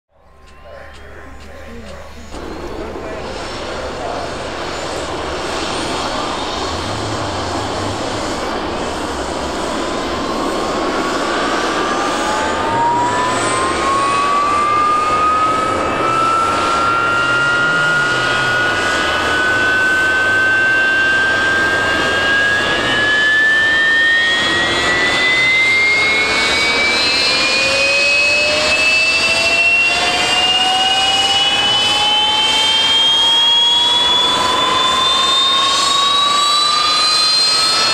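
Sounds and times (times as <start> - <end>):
lower engine whine: 0.1 - 37.9
jet engine spooling up: 0.5 - 37.9.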